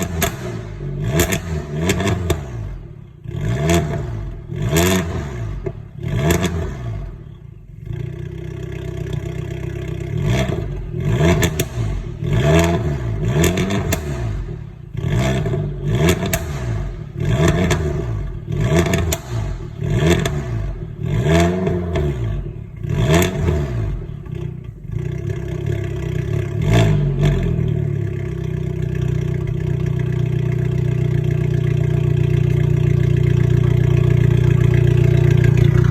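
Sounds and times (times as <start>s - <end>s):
car engine revving with crackles: 0.0s - 35.9s.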